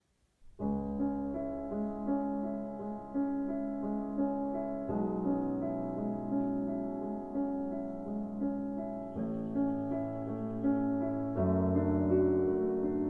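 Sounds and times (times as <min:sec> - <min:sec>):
gentle piano melody: 0:00.4 - 0:13.0.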